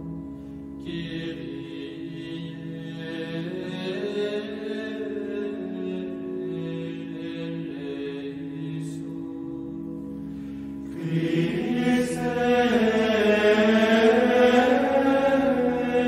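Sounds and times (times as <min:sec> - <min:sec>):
choir singing sustained notes: 0:00.0 - 0:16.0
low chanting voices: 0:00.0 - 0:16.0.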